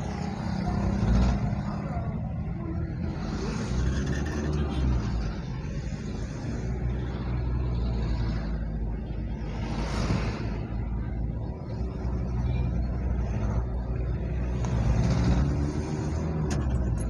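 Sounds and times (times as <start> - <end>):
car engine and road rumble: 0.0 - 17.0
motorcycles: 0.0 - 17.0.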